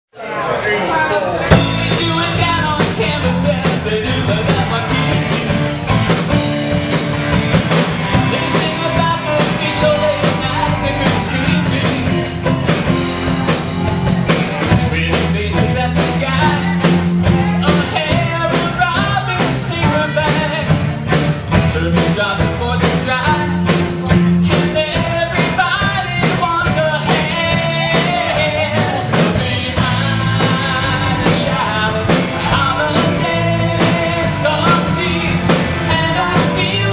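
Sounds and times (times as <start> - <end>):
live rock band playing: 1.1 - 36.9.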